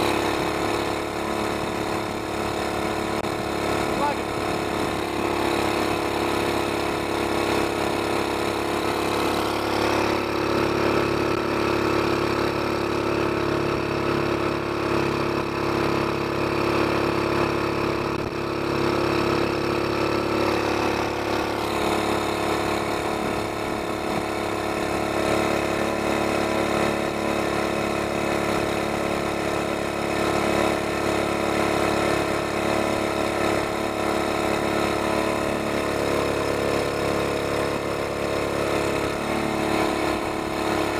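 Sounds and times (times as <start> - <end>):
mud motor running: 0.0 - 40.9.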